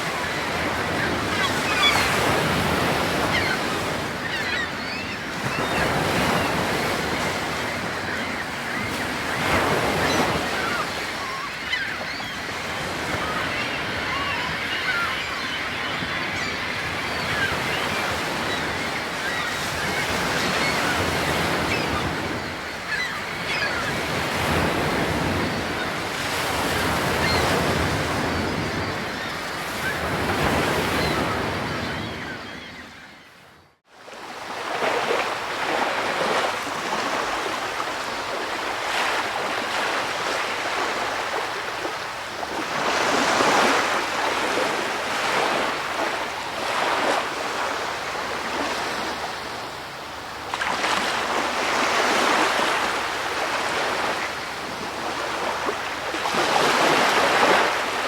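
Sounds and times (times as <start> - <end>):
ocean waves on shore: 0.0 - 58.0.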